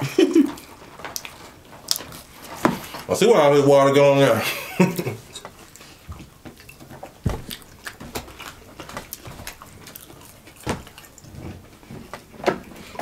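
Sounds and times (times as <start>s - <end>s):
chewing: 0.4s - 3.1s, 5.2s - 13.0s.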